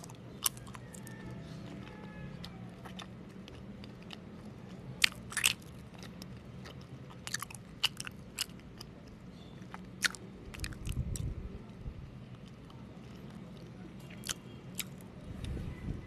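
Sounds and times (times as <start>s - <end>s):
chewing with wet mouth clicks: 0.0s - 15.6s.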